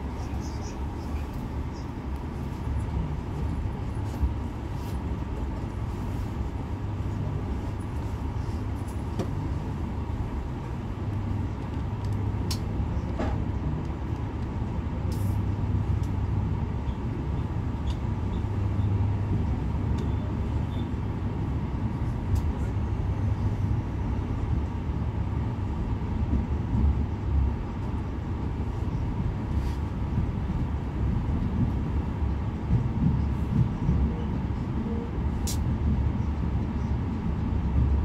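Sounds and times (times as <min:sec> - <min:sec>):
train coach low rumble: 0:00.0 - 0:38.0.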